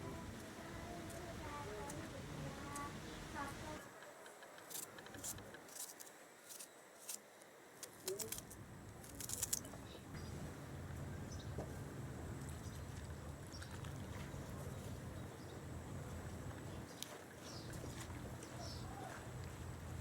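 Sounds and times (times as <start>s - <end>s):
low steady hum: 0.0s - 4.0s, 6.4s - 20.0s.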